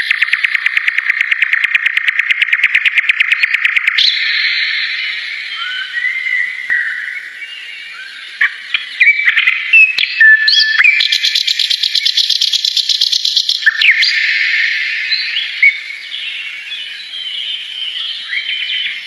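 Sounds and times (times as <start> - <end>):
small bird singing: 0.0 - 19.0.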